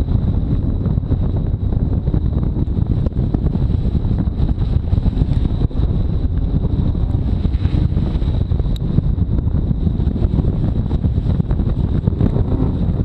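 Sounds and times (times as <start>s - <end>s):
engine low rumble: 0.0s - 13.0s
wind buffeting microphone: 0.0s - 13.0s.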